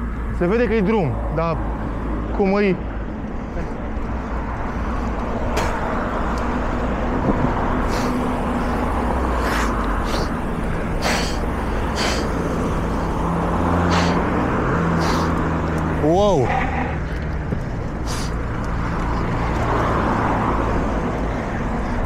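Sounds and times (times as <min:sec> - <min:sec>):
vehicle engine running: 0:03.0 - 0:22.0
wind rushing over microphone: 0:04.0 - 0:22.0.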